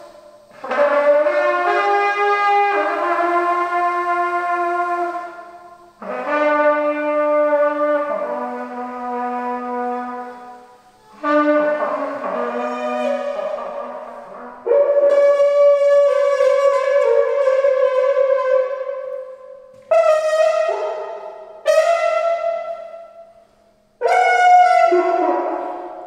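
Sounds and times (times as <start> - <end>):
held brass horn tones: 0.0 - 26.0.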